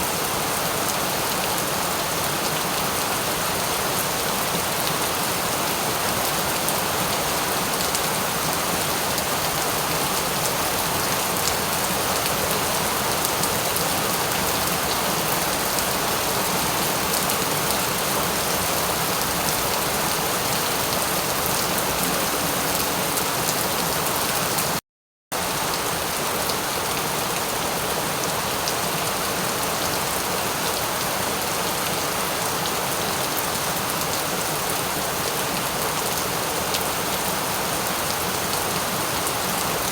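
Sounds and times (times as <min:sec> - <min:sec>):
heavy rain: 0:00.0 - 0:24.8, 0:25.4 - 0:39.9.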